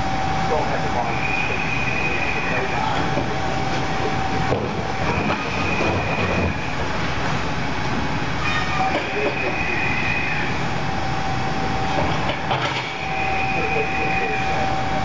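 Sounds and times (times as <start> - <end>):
machinery rumbling clatter: 0.0 - 9.9, 11.8 - 15.0.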